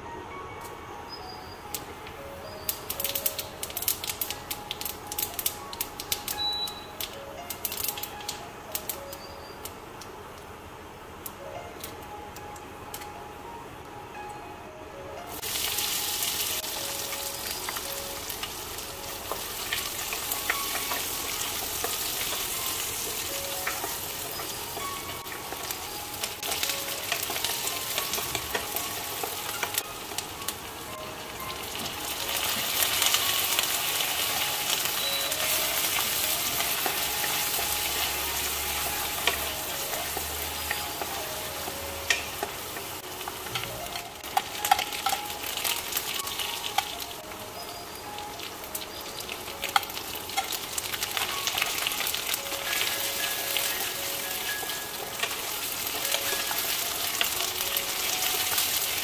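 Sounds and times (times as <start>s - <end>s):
onion sizzling in hot oil: 1.3s - 9.8s, 15.3s - 59.0s.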